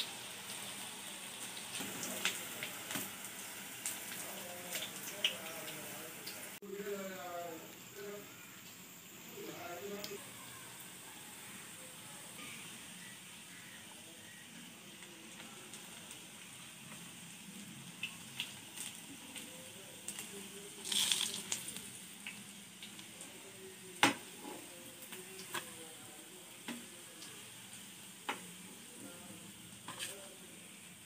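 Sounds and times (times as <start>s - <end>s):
batter sizzling in hot oil: 0.0s - 31.0s.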